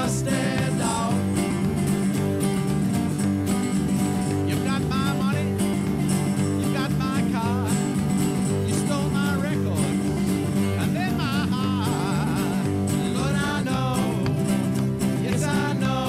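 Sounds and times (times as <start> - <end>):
bass and drums: 0.0 - 16.0.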